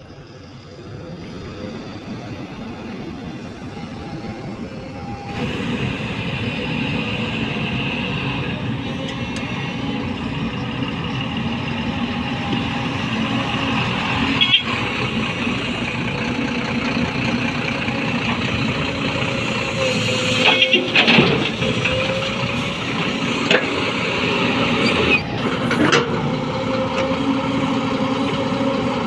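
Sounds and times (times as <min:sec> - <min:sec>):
heavy diesel machinery running: 0:00.0 - 0:29.0.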